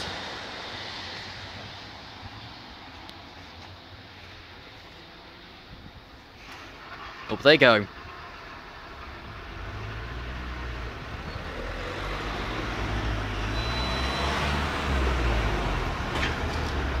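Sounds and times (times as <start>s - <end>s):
cars passing over level crossing: 0.0s - 17.0s.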